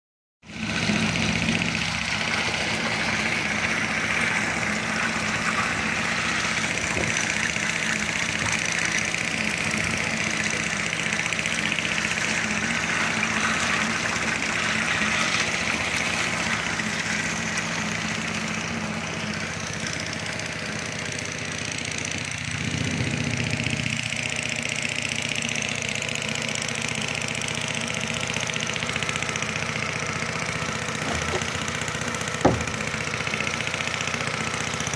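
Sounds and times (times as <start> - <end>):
engine running steadily: 0.5 - 34.9.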